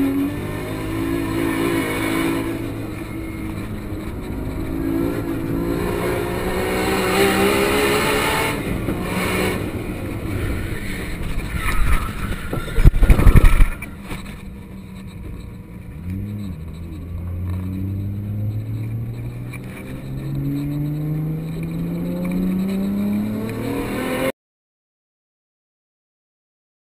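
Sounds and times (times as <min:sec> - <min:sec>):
car engine revving: 0:00.0 - 0:24.3
gear change: 0:00.0 - 0:24.3.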